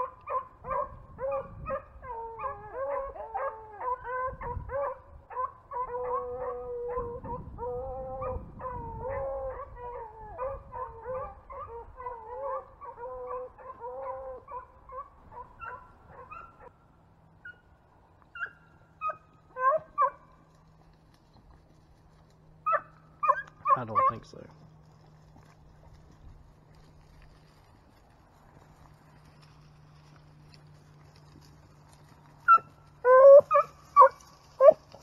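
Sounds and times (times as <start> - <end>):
beagles baying: 0.0 - 16.8, 17.4 - 20.9, 22.4 - 25.4, 29.0 - 35.0.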